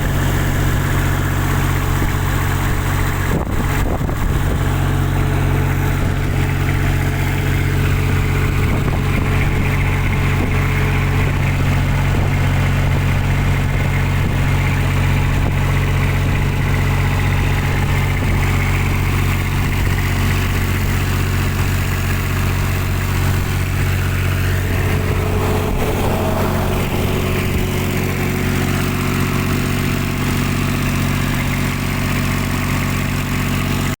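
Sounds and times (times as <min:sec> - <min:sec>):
diesel engine running steadily: 0:00.0 - 0:34.0.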